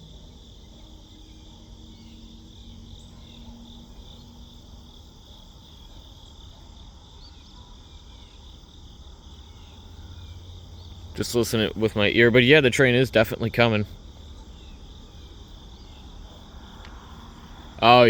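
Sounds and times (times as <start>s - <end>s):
crickets trilling: 0.0s - 18.0s
faint low hum: 0.0s - 18.0s.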